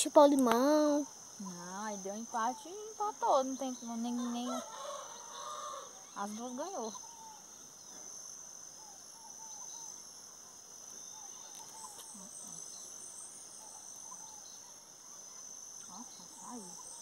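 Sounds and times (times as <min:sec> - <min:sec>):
faint bird chirps: 0:00.0 - 0:17.0
insect chorus: 0:00.0 - 0:17.0.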